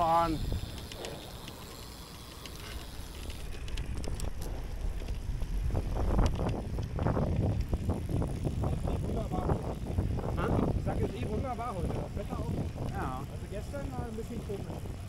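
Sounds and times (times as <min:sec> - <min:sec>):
bicycle tyres rumbling: 0:00.0 - 0:15.0
light clicks and rattles: 0:00.0 - 0:15.0
wind buffeting microphone: 0:00.0 - 0:15.0.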